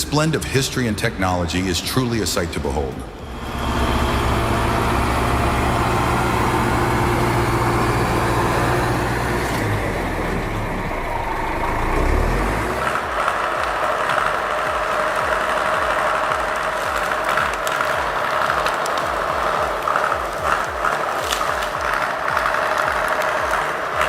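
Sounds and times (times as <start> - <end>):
heavy machine engine running: 3.2 - 24.0.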